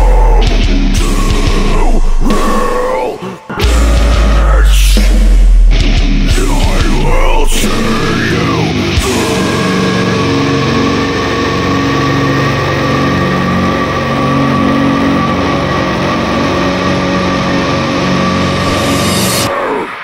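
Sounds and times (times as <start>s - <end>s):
droning heavy metal guitars: 0.0s - 20.0s.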